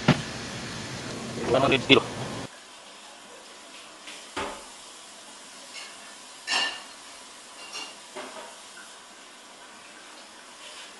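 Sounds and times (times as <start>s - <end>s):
faint steady hiss: 0.0s - 10.9s.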